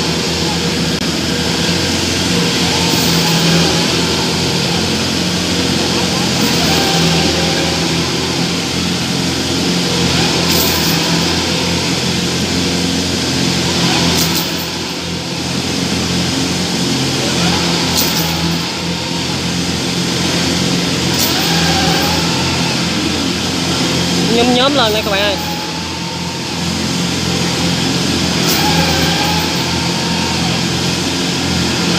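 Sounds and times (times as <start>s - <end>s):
diesel engines under load: 0.0s - 31.9s.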